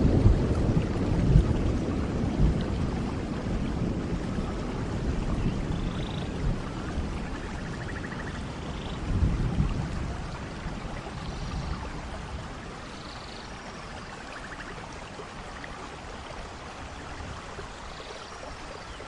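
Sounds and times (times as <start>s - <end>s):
low rumble of thunder: 0.0s - 15.3s
heavy rain falling: 0.0s - 19.0s.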